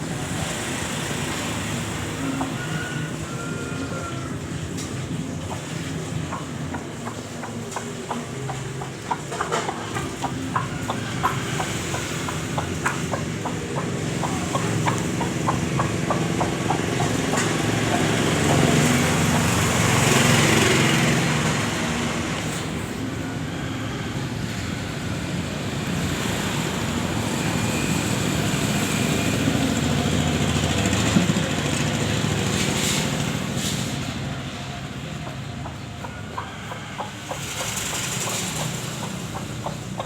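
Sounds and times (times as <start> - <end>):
small engine running: 0.0 - 40.0.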